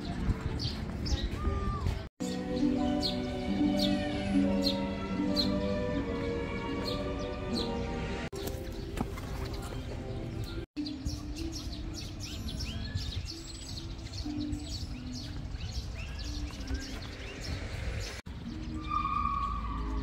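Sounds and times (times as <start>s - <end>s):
birds chirping: 0.0s - 20.0s
soft background music: 0.0s - 20.0s.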